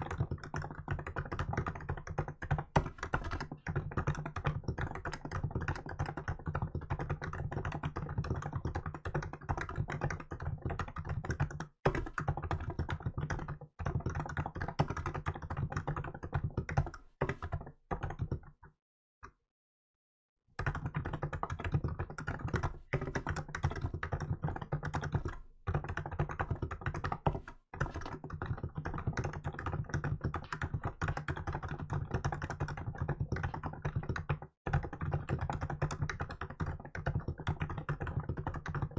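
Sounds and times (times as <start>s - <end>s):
fast keyboard typing: 0.0s - 18.6s, 20.6s - 38.9s.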